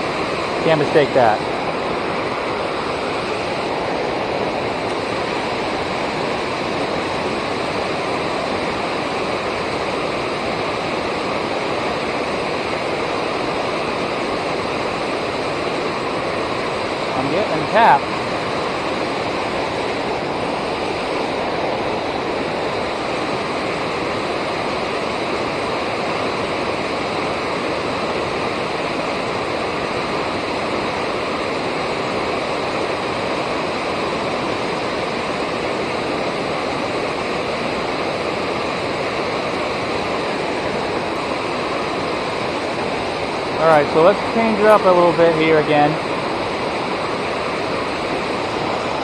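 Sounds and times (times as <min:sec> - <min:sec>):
water rushing over a dam: 0:00.0 - 0:49.0.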